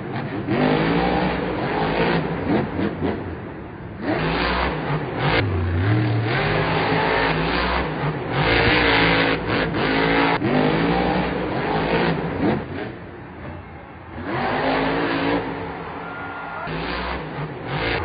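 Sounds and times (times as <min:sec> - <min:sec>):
truck engine revving hard: 0:00.0 - 0:13.1, 0:14.1 - 0:18.0.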